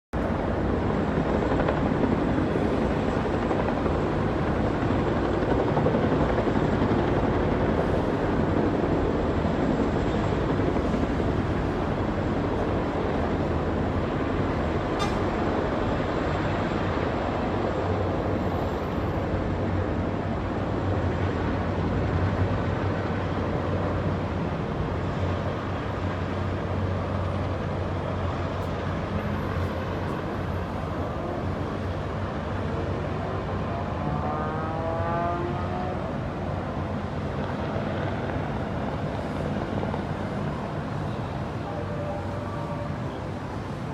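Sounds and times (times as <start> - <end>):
aircraft engine roar: 0.2 - 43.9.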